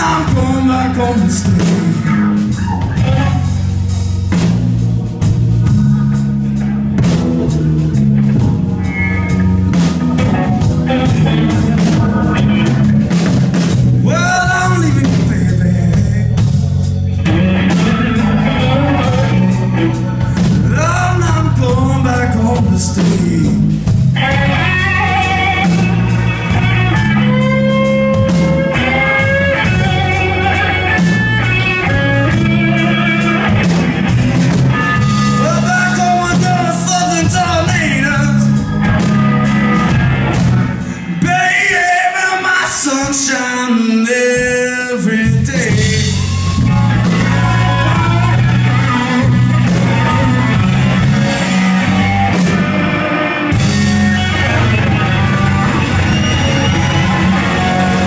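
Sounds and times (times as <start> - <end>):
electric guitar bending notes: 0.0 - 43.6, 45.2 - 58.0
live blues band playing: 0.0 - 58.0.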